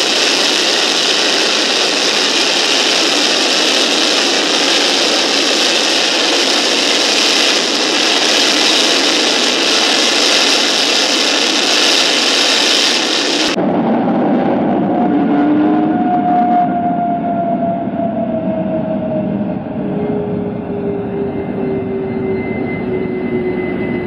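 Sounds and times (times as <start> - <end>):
jet engine roaring in afterburner: 0.0 - 24.0.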